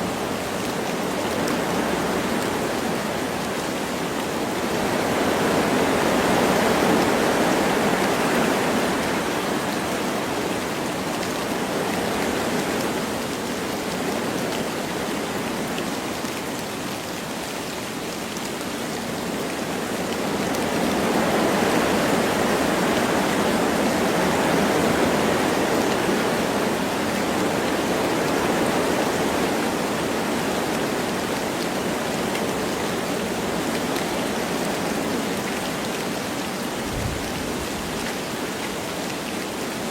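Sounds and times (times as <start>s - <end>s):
light rain: 0.0s - 39.9s
wind through trees: 0.0s - 39.9s.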